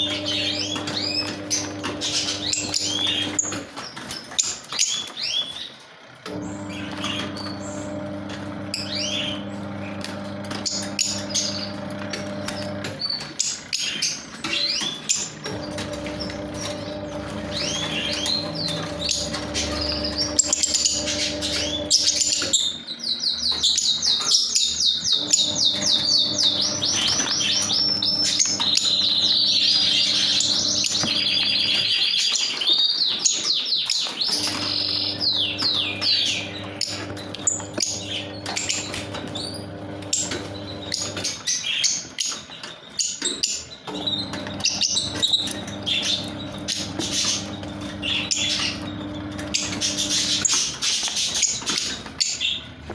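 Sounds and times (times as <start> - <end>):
birds chattering with shrill chirps: 0.0 - 52.9.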